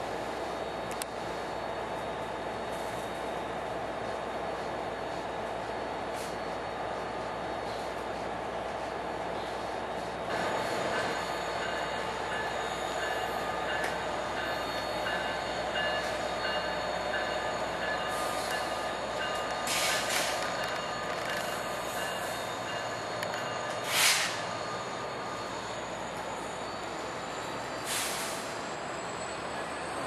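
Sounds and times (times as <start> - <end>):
diesel locomotive running: 0.0 - 30.0
train cars rolling: 0.0 - 30.0.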